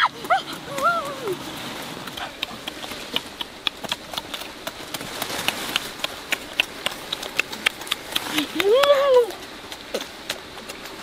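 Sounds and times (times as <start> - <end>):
people chewing with lip smacks: 0.2 - 11.0.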